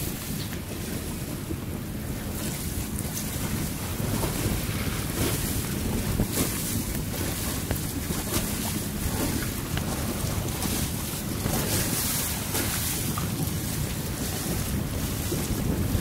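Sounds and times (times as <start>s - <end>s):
water washing along hull: 0.0s - 16.0s
wind buffeting microphone: 0.0s - 16.0s.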